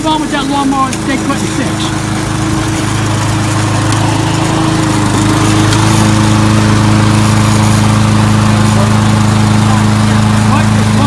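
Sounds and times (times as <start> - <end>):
riding mower engine running: 0.0 - 11.0.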